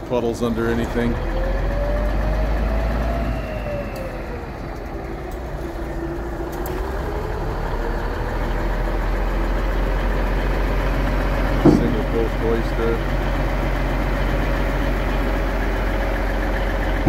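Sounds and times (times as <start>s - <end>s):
diesel engine rumble: 0.0s - 17.0s
hydraulic pump whine: 0.0s - 17.0s.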